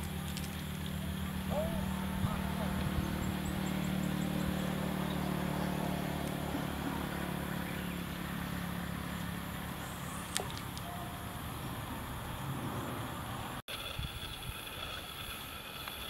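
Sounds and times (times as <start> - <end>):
low motor-like drone: 0.0 - 13.6.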